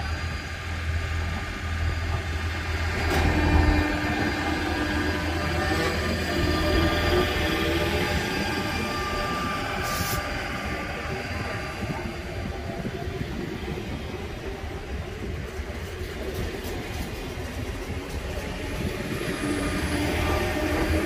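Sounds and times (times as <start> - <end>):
electric train motor whine: 0.0 - 13.9, 18.0 - 21.0
train wheel rumble: 0.0 - 21.0.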